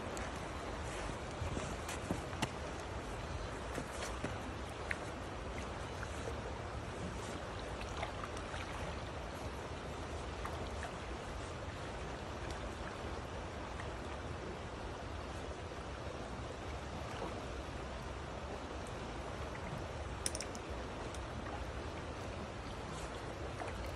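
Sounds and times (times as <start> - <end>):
creek flowing over rocks: 0.0 - 23.9.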